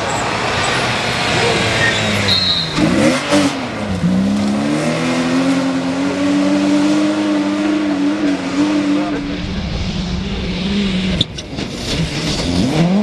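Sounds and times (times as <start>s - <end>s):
rally car engine revving: 0.2s - 13.0s.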